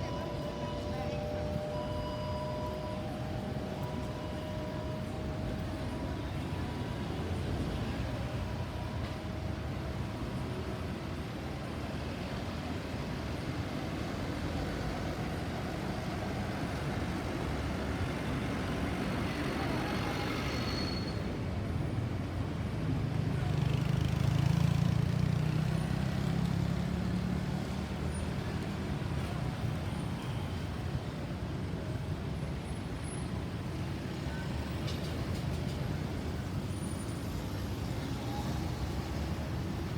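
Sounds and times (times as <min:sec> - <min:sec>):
road traffic noise: 0:00.0 - 0:39.9.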